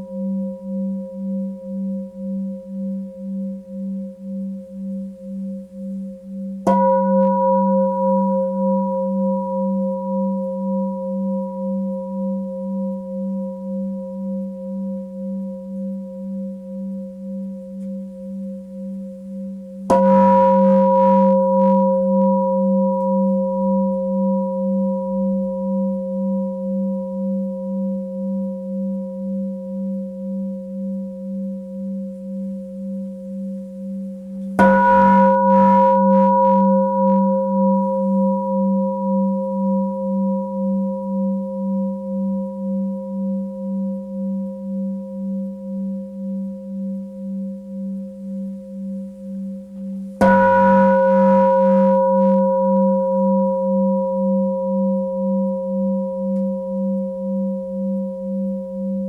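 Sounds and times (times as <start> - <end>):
singing bowl ringing: 0.0 - 59.0.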